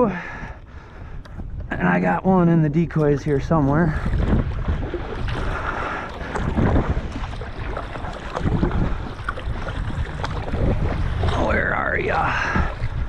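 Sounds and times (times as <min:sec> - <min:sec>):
water sloshing and splashing: 0:00.0 - 0:13.0
wind buffeting microphone: 0:00.0 - 0:13.0.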